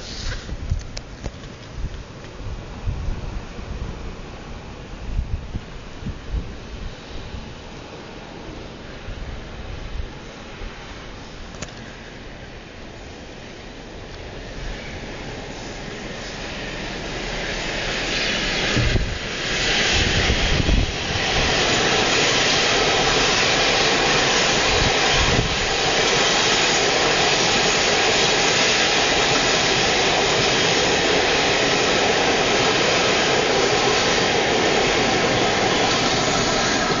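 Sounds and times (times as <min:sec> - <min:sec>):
diesel locomotive engine roar: 0:00.0 - 0:37.0.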